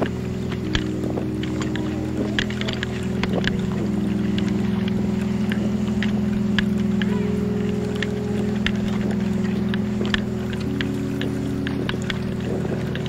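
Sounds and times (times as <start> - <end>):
lo-fi crackle clicks: 0.0 - 13.0
synth drone chords: 0.0 - 13.0.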